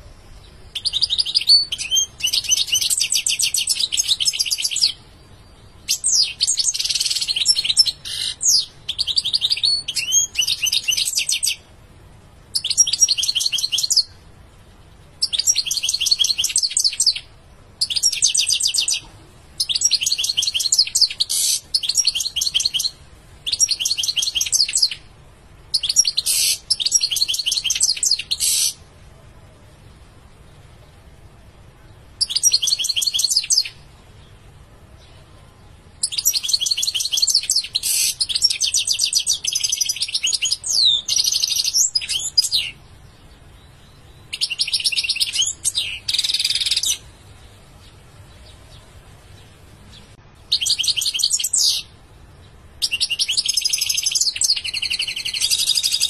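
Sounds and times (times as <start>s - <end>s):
goldfinch twittering song: 0.7s - 11.6s, 12.5s - 14.2s, 15.2s - 25.0s, 25.7s - 28.8s, 32.2s - 33.8s, 36.0s - 47.2s, 49.4s - 56.0s.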